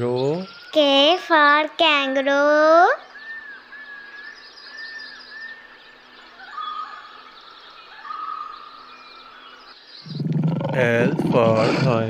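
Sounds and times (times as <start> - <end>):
faint outdoor background: 0.0 - 12.0
birds whistling: 2.0 - 12.0.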